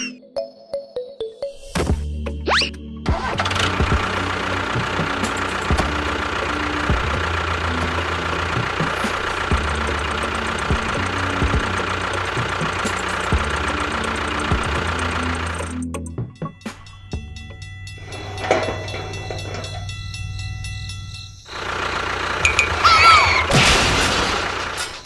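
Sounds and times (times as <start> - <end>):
engine running with knocking beat: 3.1 - 24.8.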